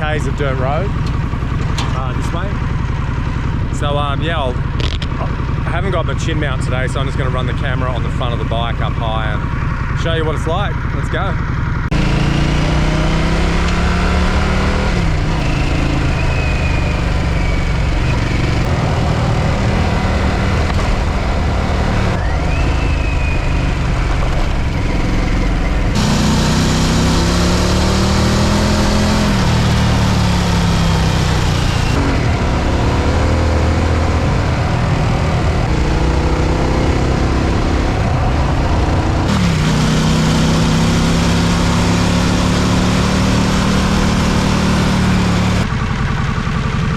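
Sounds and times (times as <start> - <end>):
motorcycle engine accelerating: 0.0 - 46.9
wind and road noise: 0.0 - 46.9.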